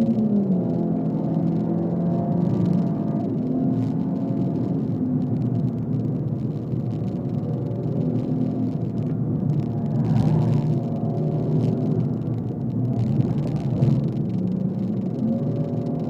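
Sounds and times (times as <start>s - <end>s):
car engine running at speed: 0.0s - 16.0s
road noise: 0.0s - 16.0s.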